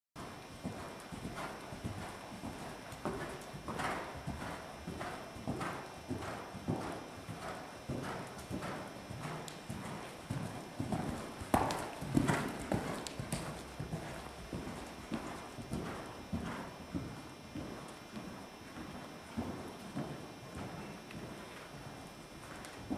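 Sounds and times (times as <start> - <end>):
horse hooves cantering on sand: 0.2 - 22.9.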